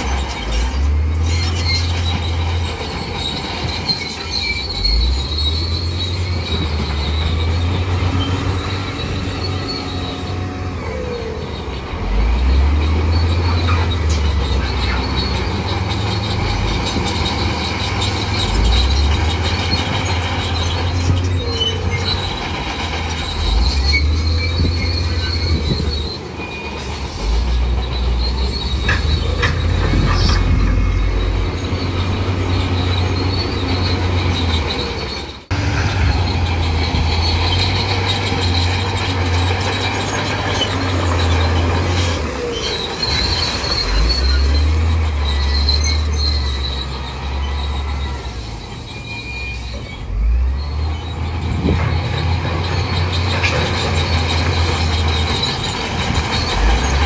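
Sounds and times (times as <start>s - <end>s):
bulldozer diesel engine rumbling: 0.0s - 57.0s
steel tracks squealing: 0.0s - 57.0s.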